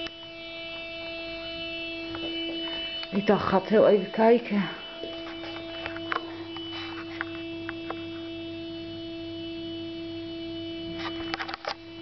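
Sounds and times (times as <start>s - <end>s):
steady humming tone: 0.0s - 12.0s.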